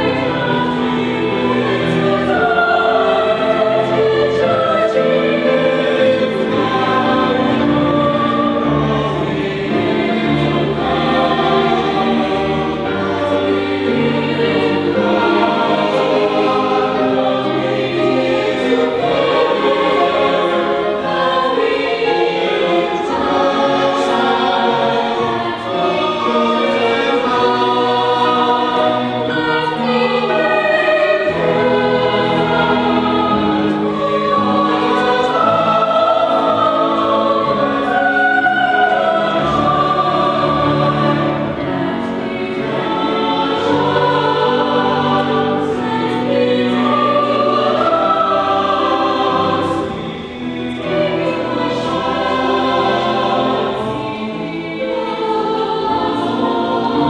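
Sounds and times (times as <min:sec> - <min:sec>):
choir singing in parts: 0:00.0 - 0:57.0.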